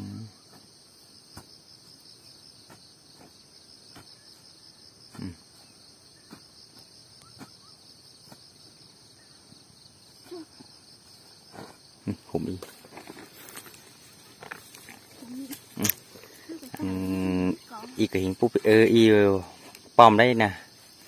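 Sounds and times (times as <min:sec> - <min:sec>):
insect trill: 0:00.0 - 0:21.0.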